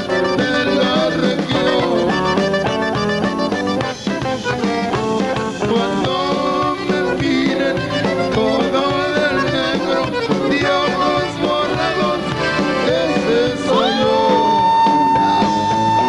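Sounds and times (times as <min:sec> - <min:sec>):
lead singer singing: 0:00.0 - 0:02.5, 0:04.4 - 0:16.0
button accordion: 0:00.0 - 0:16.0
live band playing: 0:00.0 - 0:16.0.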